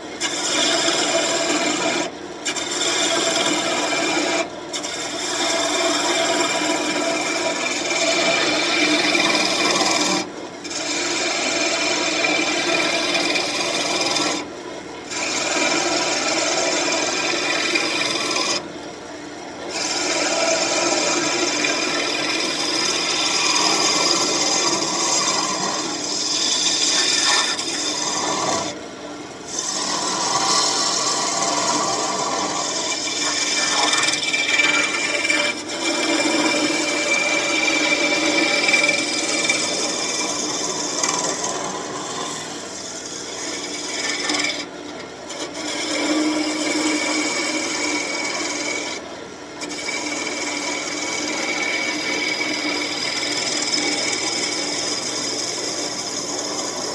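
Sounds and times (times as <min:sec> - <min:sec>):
gouge scraping wood on lathe: 0:00.0 - 0:18.7, 0:19.5 - 0:56.9
lathe humming: 0:00.0 - 0:56.9.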